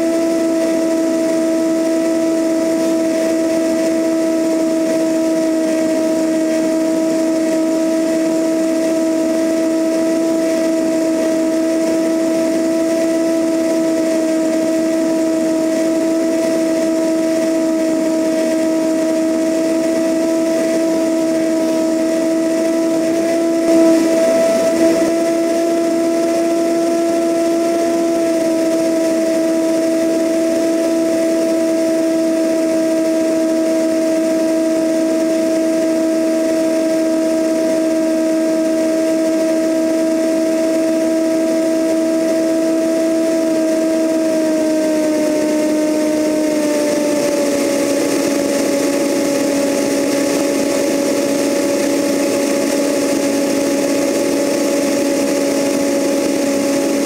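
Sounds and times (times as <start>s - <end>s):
airplane engine and propeller drone: 0.0s - 57.0s.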